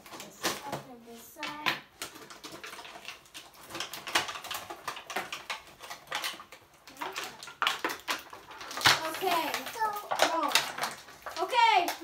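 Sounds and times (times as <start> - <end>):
packaging crinkling: 1.9 - 12.0.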